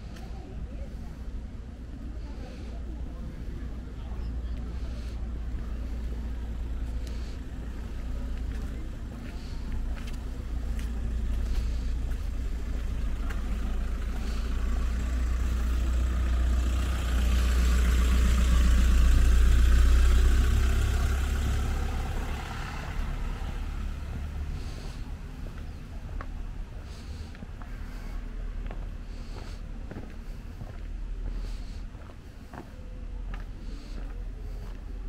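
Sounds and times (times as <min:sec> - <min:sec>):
road vehicle passing: 0:00.0 - 0:35.0
steady low rumble: 0:00.0 - 0:35.0.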